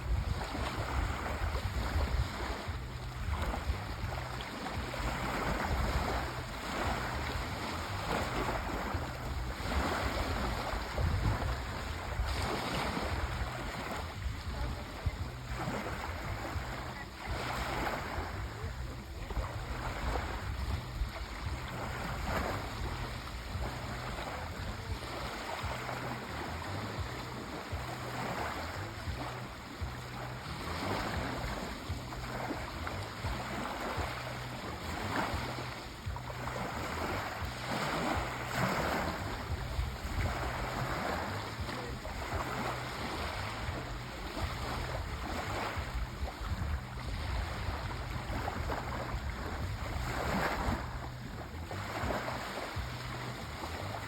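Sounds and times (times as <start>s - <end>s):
sea waves washing onto shore: 0.0s - 54.0s
steady low rumble: 0.0s - 54.0s.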